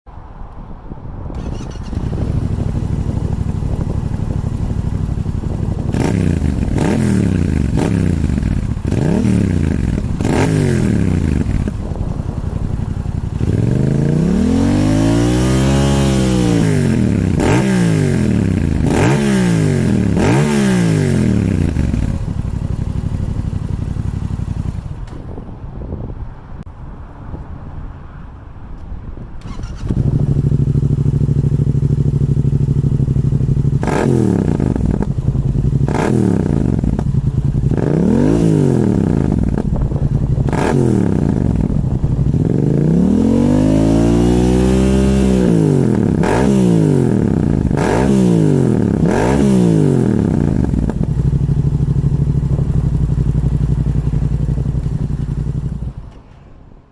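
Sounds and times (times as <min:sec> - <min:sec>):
motorcycle engine idling and revving: 0:01.3 - 0:26.3, 0:29.4 - 0:56.3.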